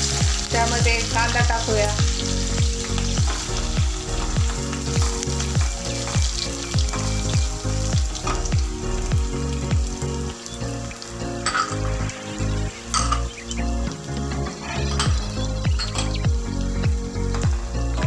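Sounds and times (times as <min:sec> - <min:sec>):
background music with drum beat: 0:00.0 - 0:18.0
onion sizzling in oil: 0:00.0 - 0:18.0.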